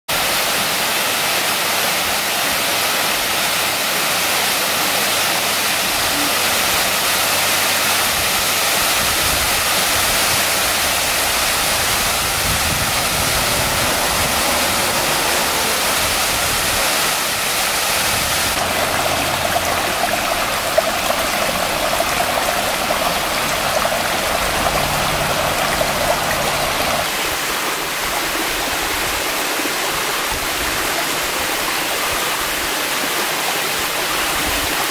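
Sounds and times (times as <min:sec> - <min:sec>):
waterfall rushing into a pool: 0:00.1 - 0:34.9.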